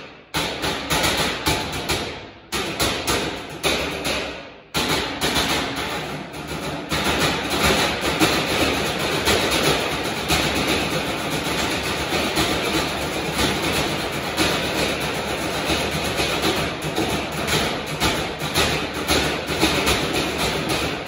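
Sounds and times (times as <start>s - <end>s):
metal trash cans struck with sticks: 0.0s - 21.0s.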